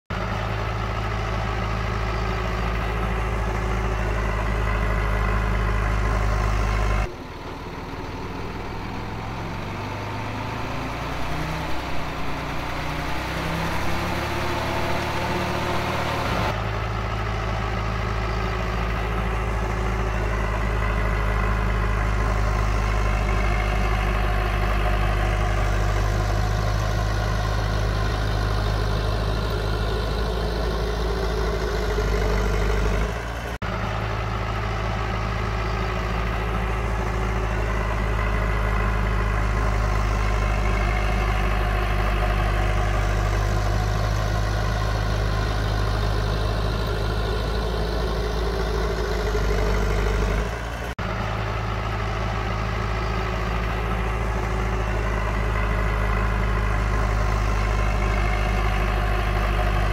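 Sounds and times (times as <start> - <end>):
heavy diesel engines humming: 0.0 - 59.9
engine revving: 0.1 - 59.9.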